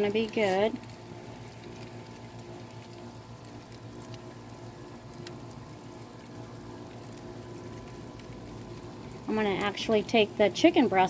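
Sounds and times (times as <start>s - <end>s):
chicken bubbling and sizzling: 0.0s - 11.0s
grill low hum: 0.0s - 11.0s
sharp crackles: 0.0s - 11.0s.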